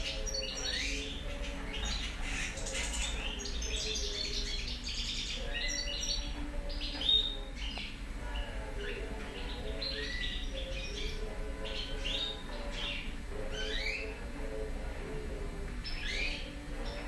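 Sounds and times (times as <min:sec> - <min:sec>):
finch twittering and trilling: 0:00.0 - 0:17.0.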